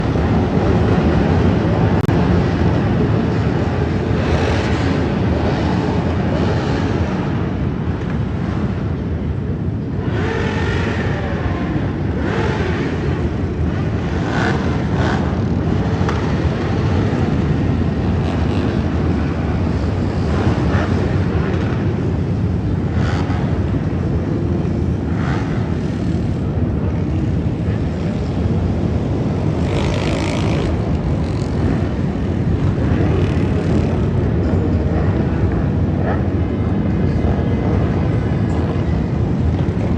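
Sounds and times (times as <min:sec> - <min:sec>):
motorcycles rumbling and revving: 0:00.0 - 0:39.9.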